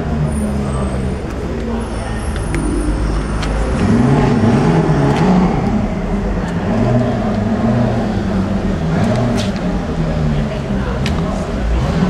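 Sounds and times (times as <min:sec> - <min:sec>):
background voices: 0:00.0 - 0:12.0
car engine running: 0:00.0 - 0:12.0.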